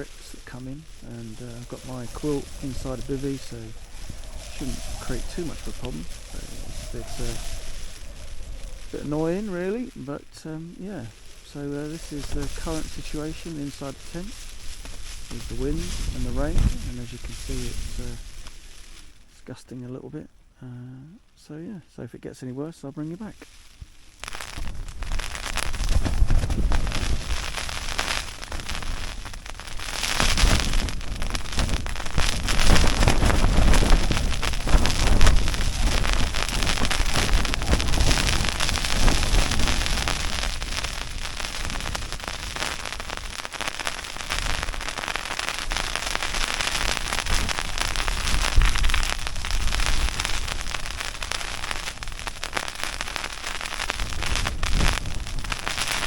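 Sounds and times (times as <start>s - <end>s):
wind gusts rumbling: 0.0s - 19.1s, 23.8s - 56.0s
rain on tent fabric: 0.0s - 19.2s, 23.2s - 56.0s.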